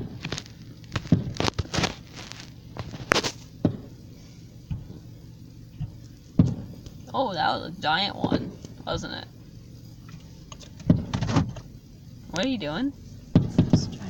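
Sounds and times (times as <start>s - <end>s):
firework bangs: 0.0s - 7.1s, 8.0s - 10.0s, 10.7s - 12.6s, 13.2s - 14.0s.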